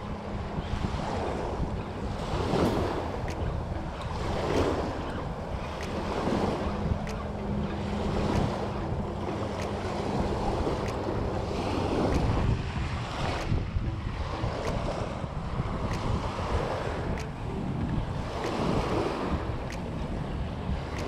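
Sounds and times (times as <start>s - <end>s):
small waves breaking: 0.0s - 17.6s
wind buffeting microphone: 0.0s - 21.0s.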